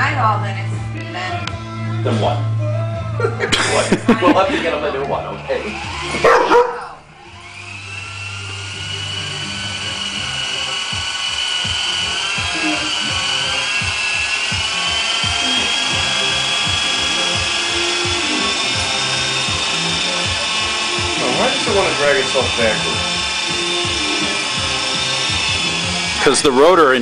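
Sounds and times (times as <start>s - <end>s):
toy helicopter motor whining: 3.7s - 27.0s.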